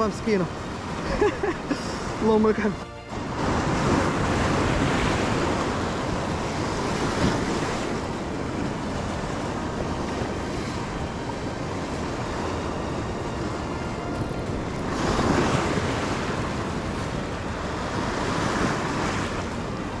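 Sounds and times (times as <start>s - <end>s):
sea waves breaking over rocks: 0.0s - 20.0s.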